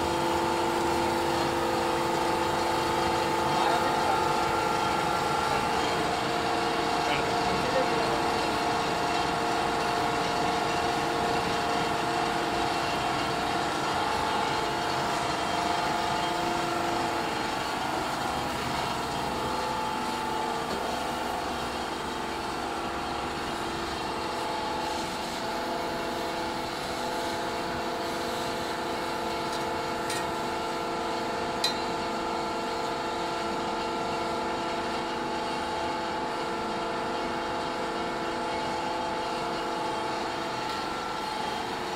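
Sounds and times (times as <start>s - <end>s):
extruder machine humming and rumbling: 0.0s - 41.9s.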